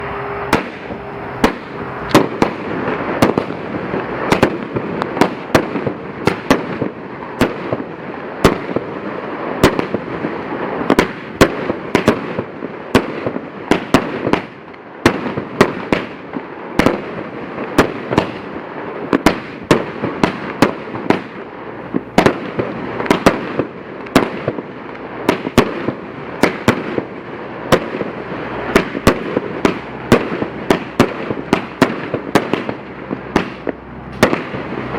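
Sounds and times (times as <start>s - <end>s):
fireworks bangs: 0.0s - 34.9s
rush of small firework reports: 0.0s - 34.9s.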